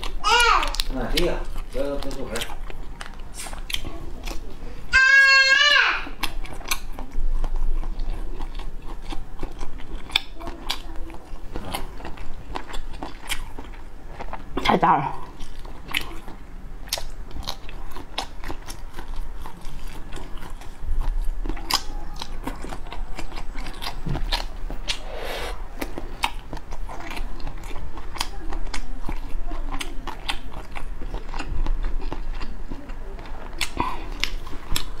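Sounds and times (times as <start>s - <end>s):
chewing shrimp: 0.0s - 5.4s, 6.0s - 35.0s.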